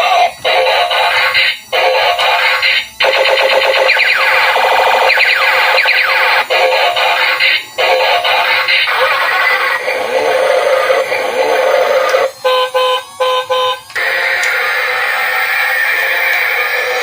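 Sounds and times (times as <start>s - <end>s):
electronic music with synthesized voice: 0.0s - 12.3s, 14.0s - 17.0s.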